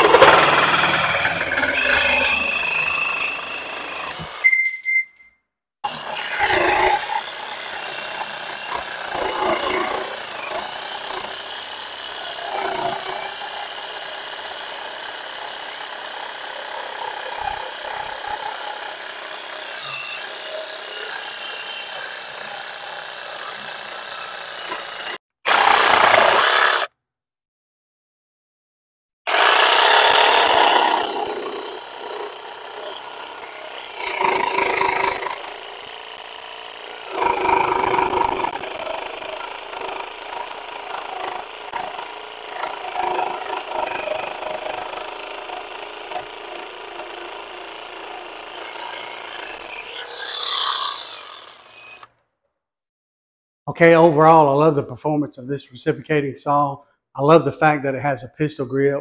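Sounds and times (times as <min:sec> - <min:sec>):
reciprocating saw cutting wood: 0:00.0 - 0:04.5, 0:05.8 - 0:26.9, 0:29.3 - 0:52.2.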